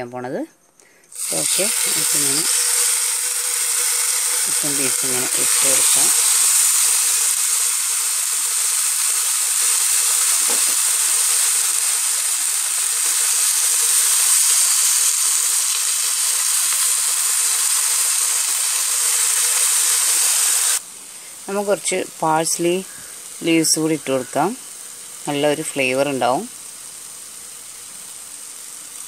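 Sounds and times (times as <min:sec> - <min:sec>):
chicken sizzling in a pan: 0:01.1 - 0:29.0.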